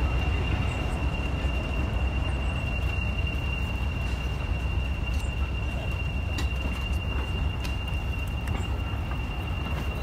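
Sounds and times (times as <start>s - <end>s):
diesel locomotive idling: 0.0s - 10.0s
high-pitched whine: 0.0s - 10.0s.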